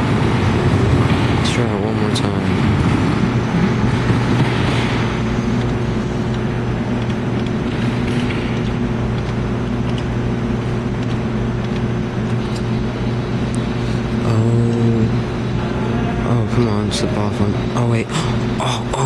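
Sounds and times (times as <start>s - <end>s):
claw machine electrical hum: 0.0s - 19.0s.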